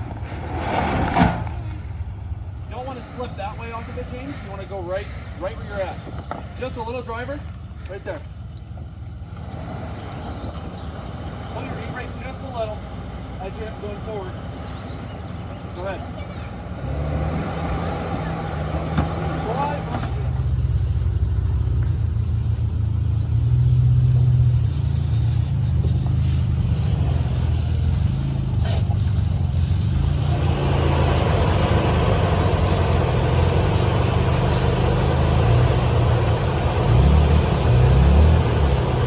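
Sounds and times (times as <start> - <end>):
suv engine running at low revs: 0.0 - 39.0.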